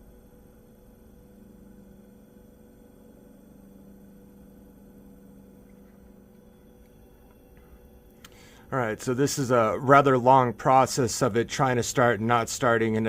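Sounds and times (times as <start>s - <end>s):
heater faintly humming: 0.0s - 13.0s.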